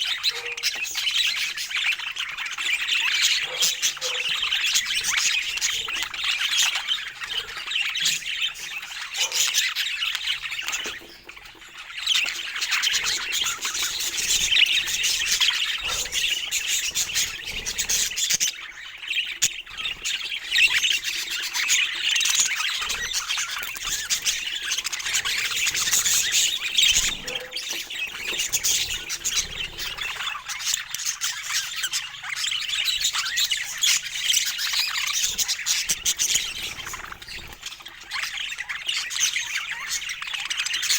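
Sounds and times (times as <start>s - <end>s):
budgerigar squawks: 0.0s - 18.7s, 19.3s - 40.9s
budgerigars chattering and chirping: 0.0s - 40.9s.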